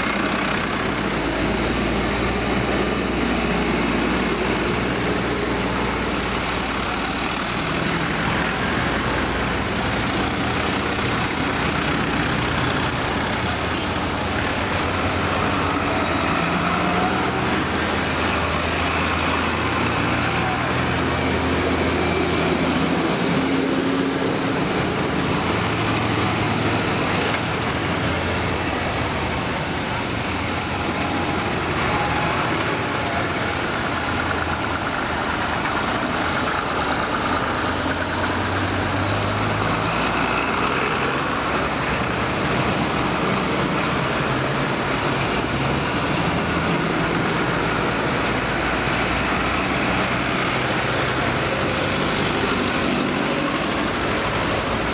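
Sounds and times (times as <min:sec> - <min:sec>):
tractors driving past: 0:00.0 - 0:54.9.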